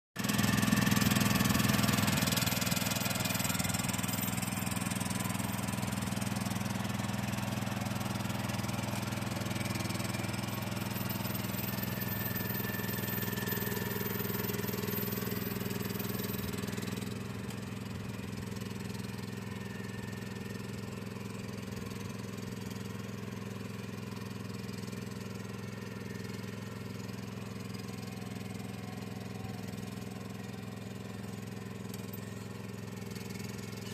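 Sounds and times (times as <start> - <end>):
engine running steadily: 0.2 - 33.9.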